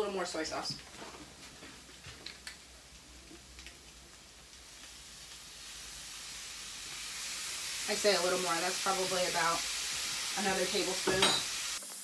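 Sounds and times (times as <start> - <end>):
sauce sizzling in a hot skillet: 0.1 - 12.0.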